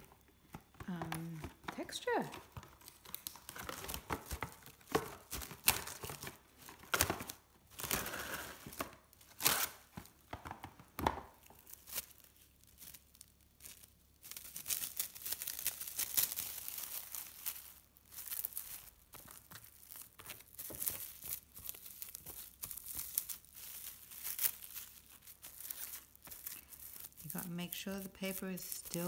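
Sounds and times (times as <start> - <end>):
plastic cling wrap crinkling: 0.0 - 29.0.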